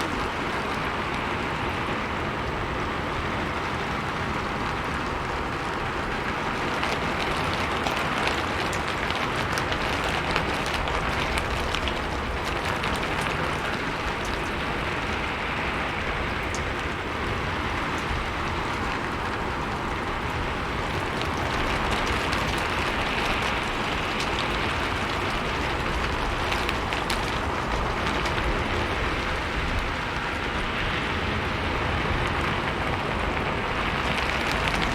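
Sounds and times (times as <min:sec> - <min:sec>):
rain falling on a roof: 0:00.0 - 0:34.9.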